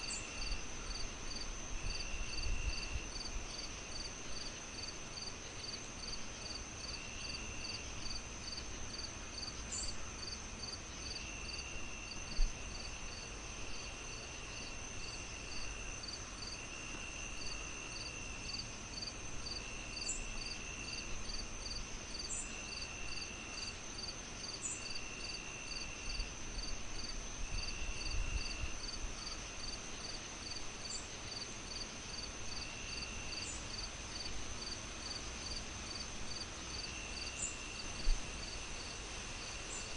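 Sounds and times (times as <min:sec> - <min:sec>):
crickets chirping: 0:00.0 - 0:39.9
low even hiss: 0:00.0 - 0:39.9.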